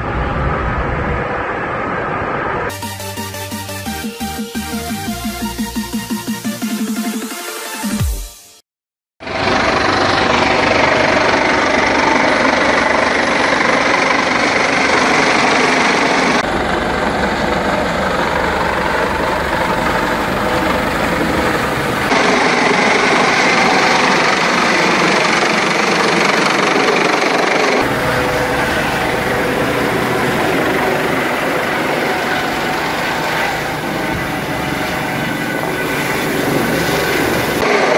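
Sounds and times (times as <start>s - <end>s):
helicopter flying low overhead: 0.0s - 2.8s, 9.2s - 37.9s.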